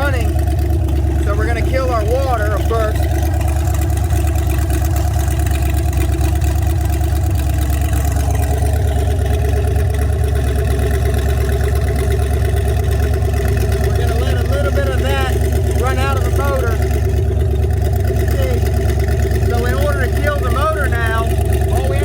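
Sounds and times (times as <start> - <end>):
boat engine running steadily: 0.0 - 22.0.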